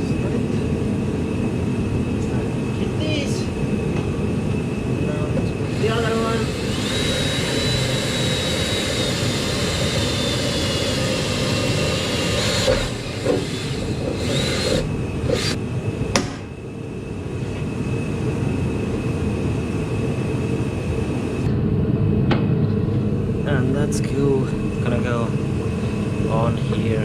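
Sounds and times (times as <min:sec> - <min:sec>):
machine droning: 0:00.0 - 0:27.0.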